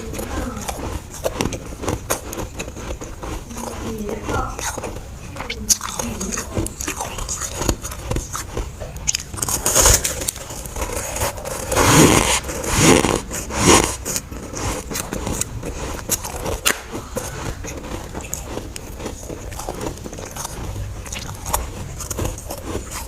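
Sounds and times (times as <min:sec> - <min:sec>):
chewing crunchy frost: 0:00.0 - 0:23.0.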